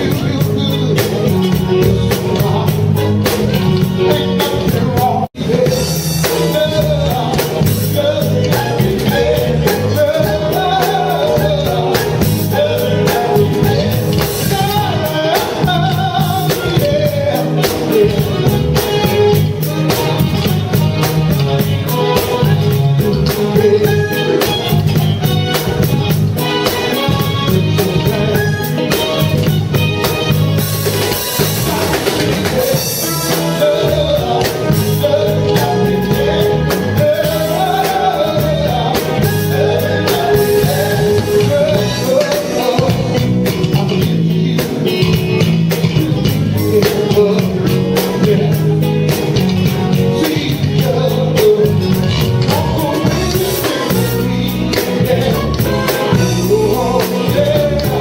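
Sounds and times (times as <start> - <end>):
live band playing: 0.0 - 58.0
person singing: 0.0 - 58.0.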